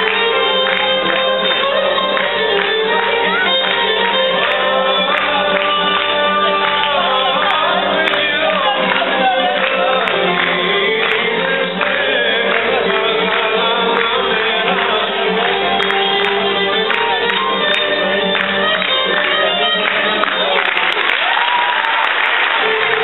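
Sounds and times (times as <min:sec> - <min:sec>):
folk dance music with singing: 0:00.0 - 0:23.0.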